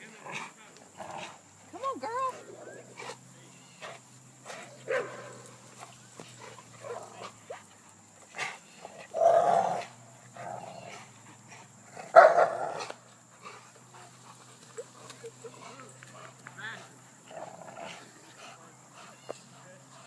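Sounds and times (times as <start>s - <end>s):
dogs growling barks: 0.0s - 1.7s, 2.3s - 20.0s.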